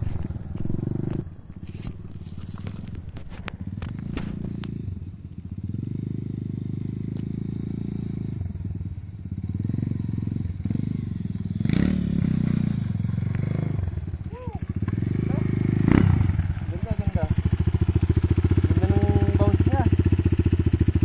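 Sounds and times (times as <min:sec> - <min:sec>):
dirt bike engine revving: 0:03.5 - 0:21.0.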